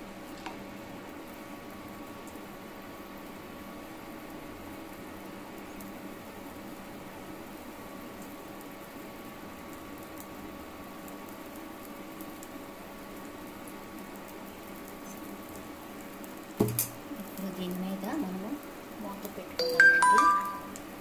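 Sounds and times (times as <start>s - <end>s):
batter sizzling in hot oil: 0.0s - 19.6s.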